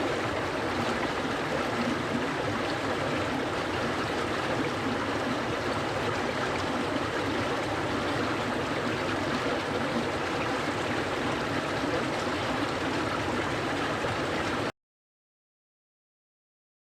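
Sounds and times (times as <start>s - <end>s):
stream flowing: 0.0s - 14.7s.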